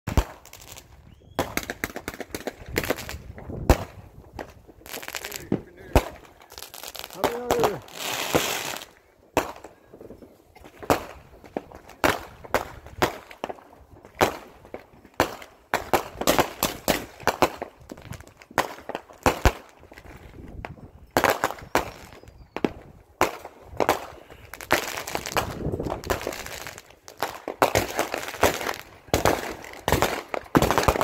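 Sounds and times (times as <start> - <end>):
fireworks bangs: 0.1 - 31.0.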